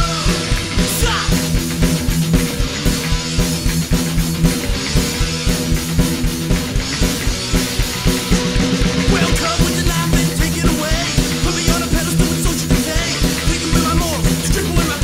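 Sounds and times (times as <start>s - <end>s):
drum kit fast beat: 0.0s - 15.0s
punk rock band playing: 0.0s - 15.0s.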